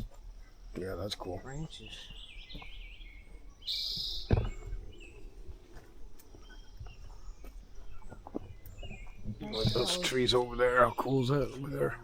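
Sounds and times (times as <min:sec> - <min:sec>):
faint bird chirps: 0:00.0 - 0:12.0
footsteps on trail: 0:01.2 - 0:12.0.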